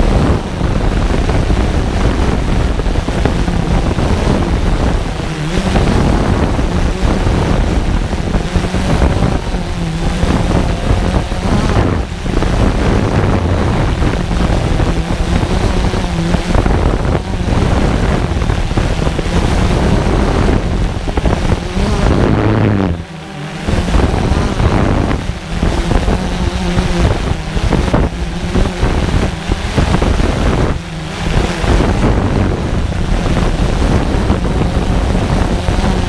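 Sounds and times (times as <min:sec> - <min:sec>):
drone propellers humming: 0:00.0 - 0:36.0
wind buffeting microphone: 0:00.0 - 0:36.0.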